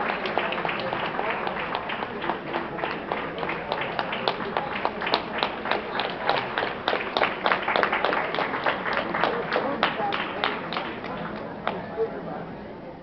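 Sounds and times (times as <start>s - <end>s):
audience clapping: 0.0s - 11.9s
indistinct crowd chatter: 0.0s - 13.0s.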